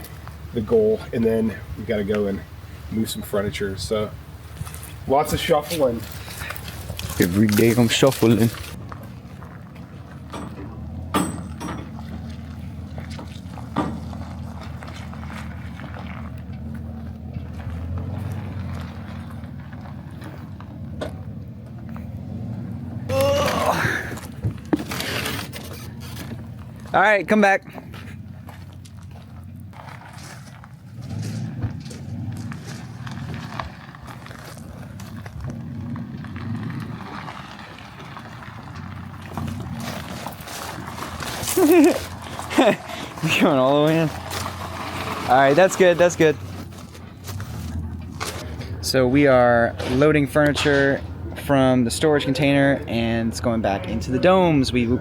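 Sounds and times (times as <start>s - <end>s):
vehicle engine running low: 0.0s - 55.0s.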